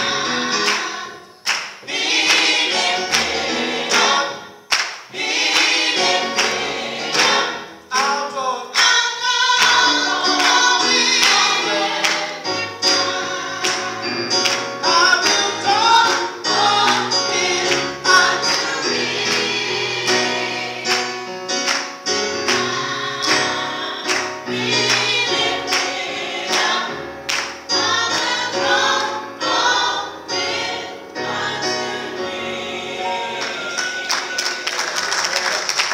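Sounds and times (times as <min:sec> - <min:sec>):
women's choir singing gospel: 0:00.0 - 0:35.2.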